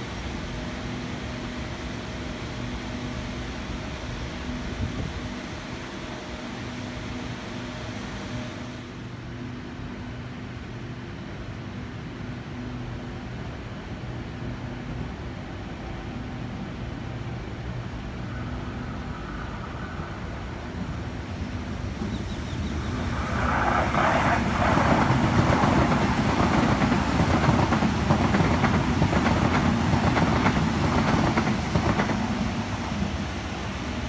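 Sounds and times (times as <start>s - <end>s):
electric train passing: 0.0s - 34.0s.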